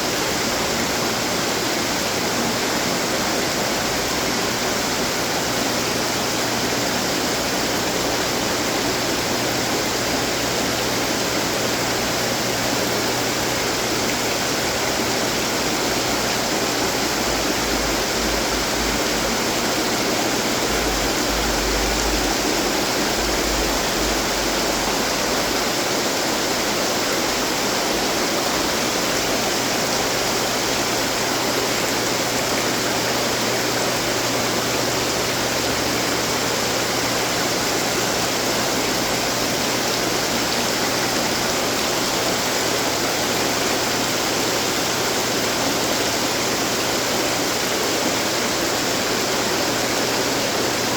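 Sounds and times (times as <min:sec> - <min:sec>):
water fountains splashing: 0:00.0 - 0:50.9.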